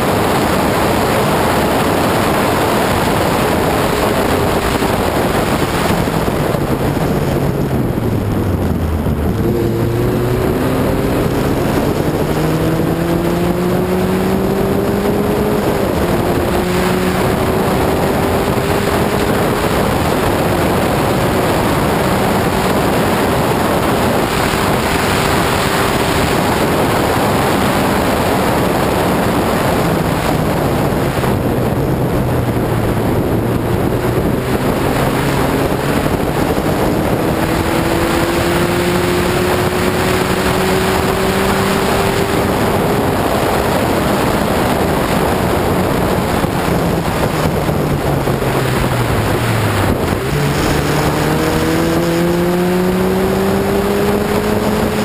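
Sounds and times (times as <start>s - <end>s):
race car engine running hard: 0.0s - 55.0s
wind rush over microphone: 0.0s - 55.0s.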